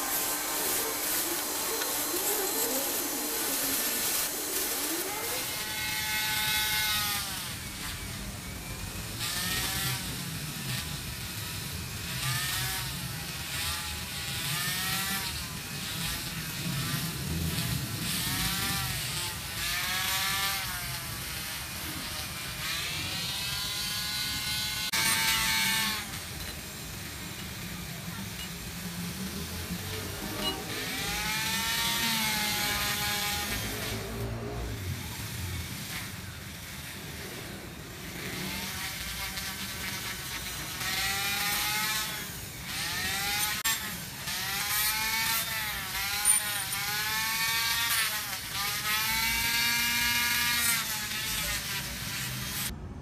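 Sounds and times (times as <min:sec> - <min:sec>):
power tool motor whining: 0:00.0 - 0:52.7.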